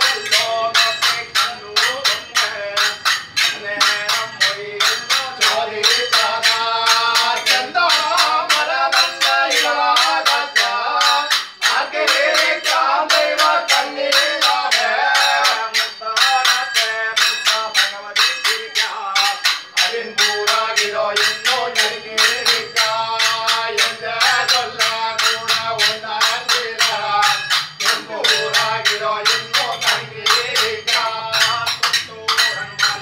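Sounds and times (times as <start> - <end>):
men chanting a song: 0.0 - 33.0
steady percussion beat: 0.0 - 33.0.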